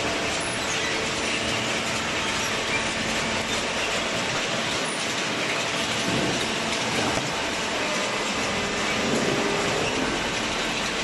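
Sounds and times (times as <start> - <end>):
chain conveyor clattering: 0.0 - 11.0.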